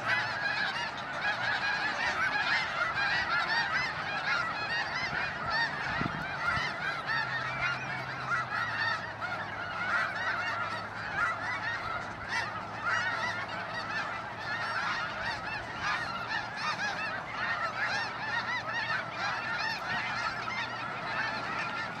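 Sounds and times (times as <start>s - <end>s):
chorus of waterfowl calling: 0.0s - 22.0s.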